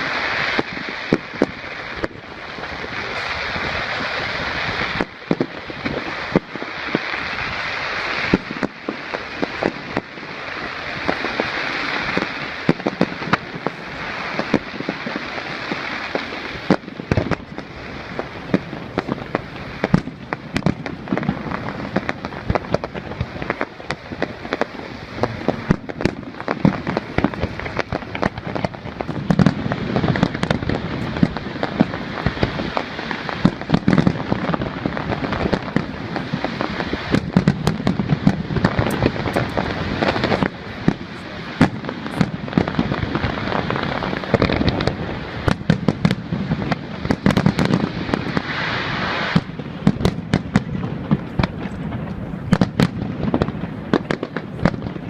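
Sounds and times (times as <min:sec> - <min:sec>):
fireworks cracking and crackling: 0:00.0 - 0:55.0
fireworks low booms: 0:00.0 - 0:55.0.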